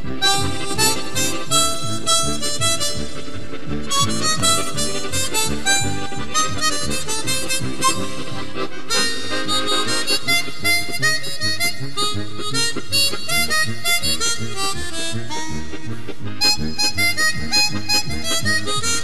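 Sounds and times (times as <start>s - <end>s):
harmonica melody: 0.0s - 19.0s
repeating low notes: 0.0s - 19.0s.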